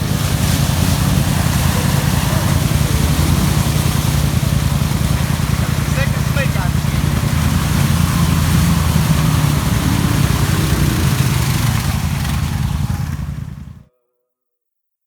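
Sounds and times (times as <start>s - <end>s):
atv engine running: 0.0s - 13.9s.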